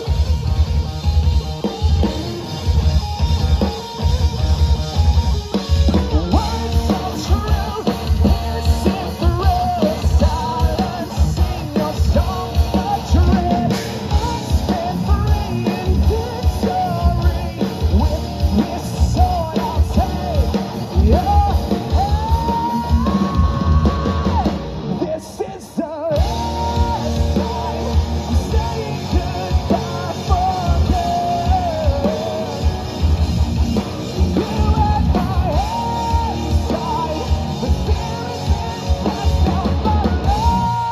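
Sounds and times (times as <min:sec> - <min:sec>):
drum kit: 0:00.0 - 0:25.4, 0:26.0 - 0:40.9
bass guitar: 0:00.0 - 0:40.9
electric guitars: 0:00.0 - 0:40.9
sung and shouted vocals: 0:06.2 - 0:32.9, 0:34.3 - 0:40.9.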